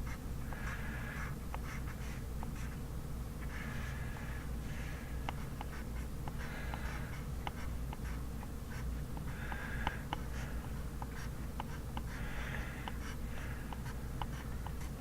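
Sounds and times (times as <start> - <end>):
pencil lead tapping: 0.0 - 2.8, 5.2 - 15.0
steady low hum: 0.0 - 15.0
pencil scratching on paper: 0.1 - 2.8, 3.4 - 15.0.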